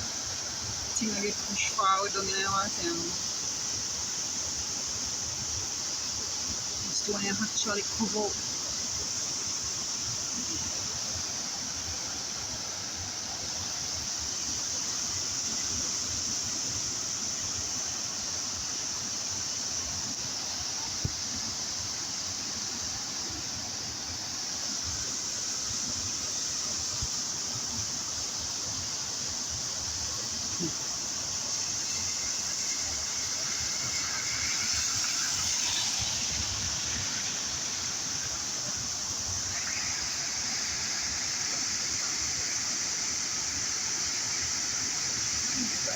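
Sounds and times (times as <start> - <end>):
flooded river rushing: 0.0 - 45.9
high-pitched shrill hiss: 0.0 - 45.9.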